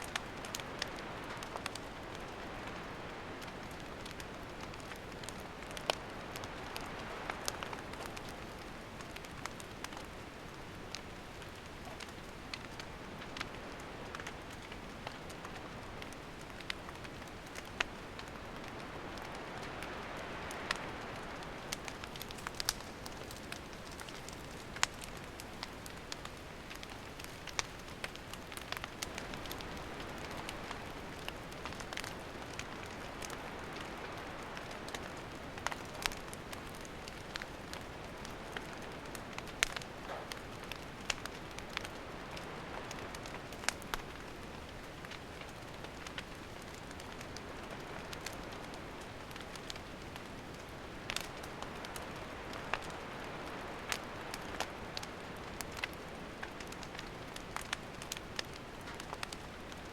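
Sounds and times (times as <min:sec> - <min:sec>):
campfire crackling and hissing: 0:00.0 - 0:59.9.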